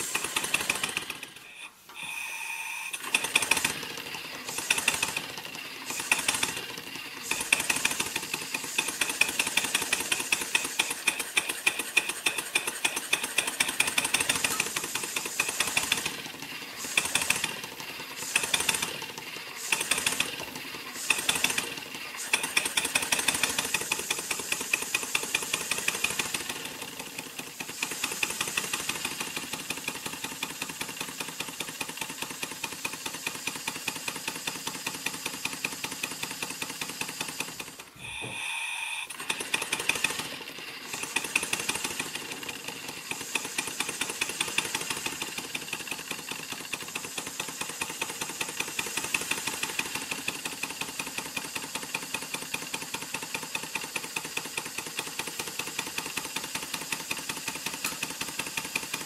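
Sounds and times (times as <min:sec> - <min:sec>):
model steam engine beating: 0:00.0 - 0:59.0.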